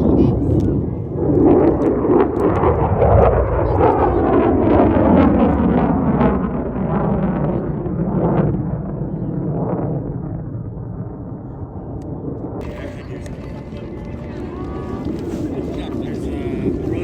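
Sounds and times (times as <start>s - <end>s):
jet engine roar with crackling: 0.0s - 17.0s.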